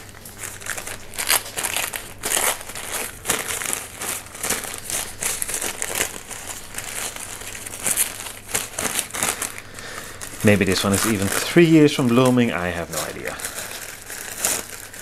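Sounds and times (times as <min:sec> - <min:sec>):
packing paper crinkling: 0:00.0 - 0:15.0.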